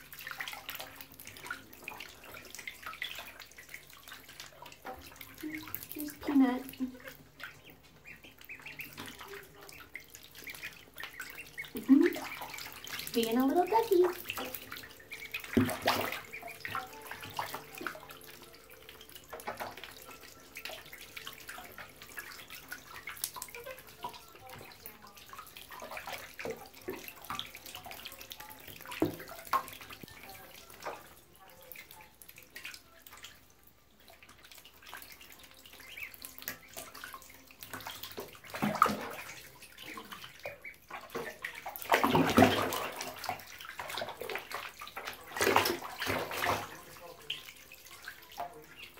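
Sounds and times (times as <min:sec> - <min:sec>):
ducklings splashing water: 0:00.0 - 0:48.9.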